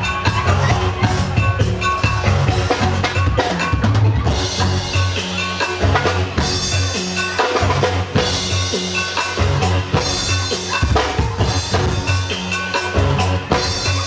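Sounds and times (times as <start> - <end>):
band music: 0.0 - 14.0
sustained bass notes: 0.0 - 14.0.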